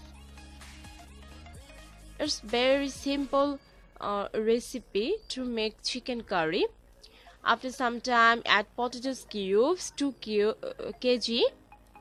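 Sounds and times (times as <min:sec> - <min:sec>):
quiet music with sliding low notes: 0:00.0 - 0:12.0.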